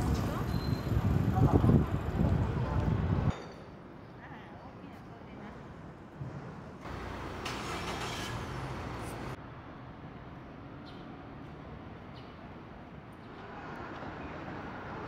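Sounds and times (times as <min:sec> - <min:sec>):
steady street hum: 0:00.0 - 0:15.0.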